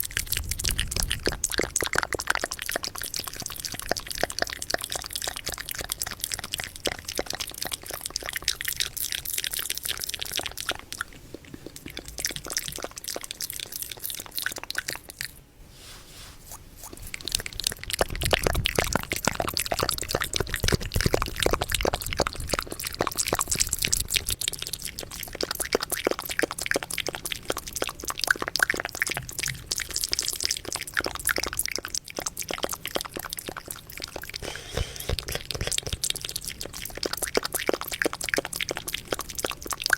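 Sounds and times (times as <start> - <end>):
wet mouth clicks and smacks: 0.0 - 15.4, 16.5 - 39.9.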